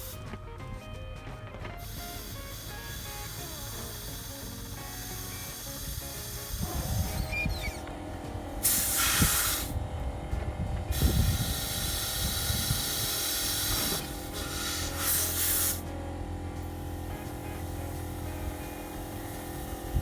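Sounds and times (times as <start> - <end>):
hissing spray bursts: 0.0 - 0.2, 1.8 - 10.1, 10.9 - 20.0.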